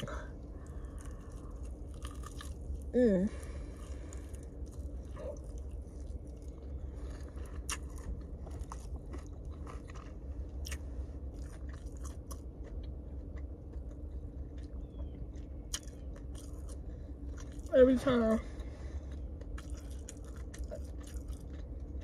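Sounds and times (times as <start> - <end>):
crunchy bites and chewing: 0.0 - 17.7, 18.5 - 22.0
steady low hum: 0.0 - 22.0.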